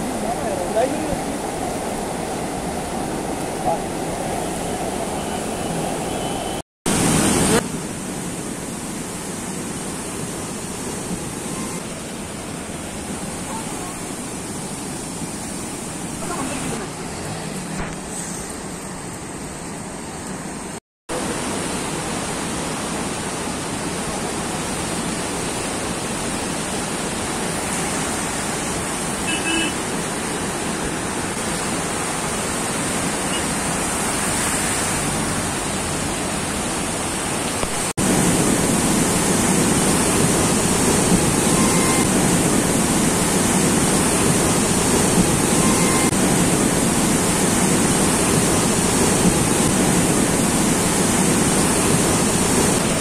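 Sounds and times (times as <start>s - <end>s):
flooded river rushing: 0.0s - 53.0s.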